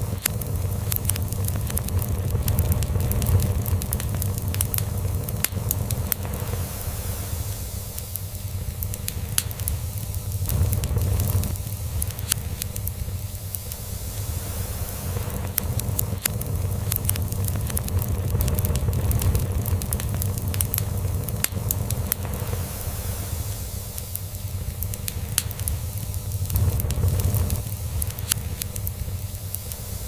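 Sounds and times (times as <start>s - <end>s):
log fire crackling and popping: 0.0s - 30.0s.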